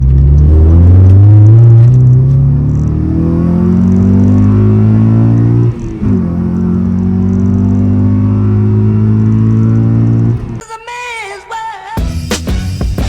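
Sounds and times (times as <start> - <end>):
car engine accelerating: 0.0 - 10.6.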